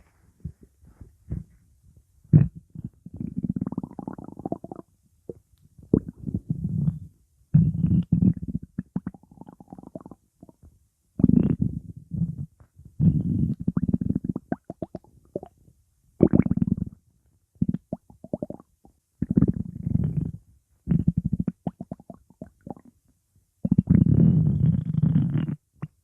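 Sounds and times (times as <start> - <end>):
stomach growling: 2.3 - 15.6, 16.2 - 17.0, 17.6 - 22.9, 23.6 - 26.0.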